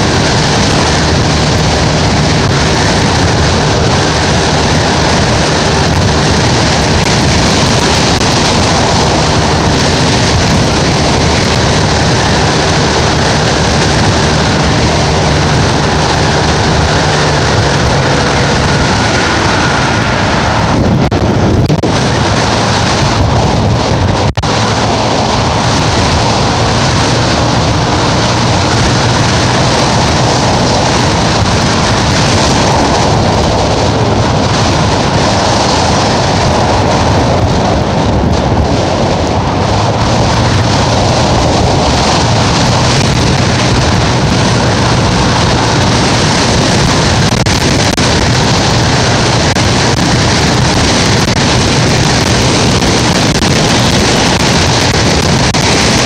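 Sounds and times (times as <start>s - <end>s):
low engine hum: 0.0s - 56.0s
wind buffeting microphone: 0.0s - 56.0s.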